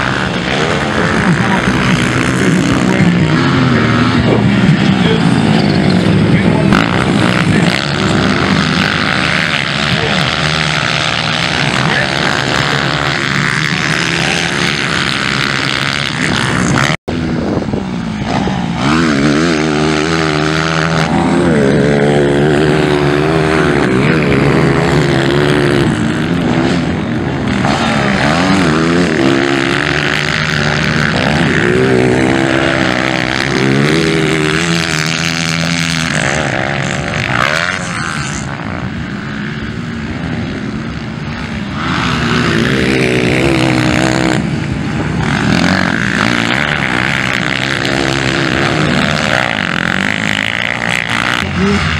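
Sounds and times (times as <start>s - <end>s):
motocross bike engines revving: 0.0s - 51.9s.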